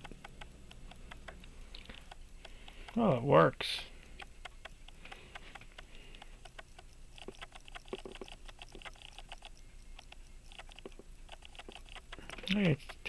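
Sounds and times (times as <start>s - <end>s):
pocket watch ticking: 0.0s - 13.0s.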